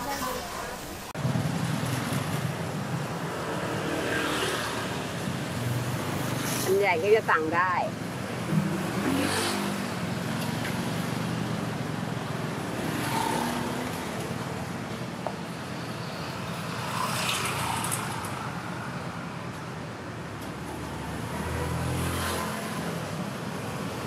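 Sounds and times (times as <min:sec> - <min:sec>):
passing cars: 0:01.2 - 0:24.0.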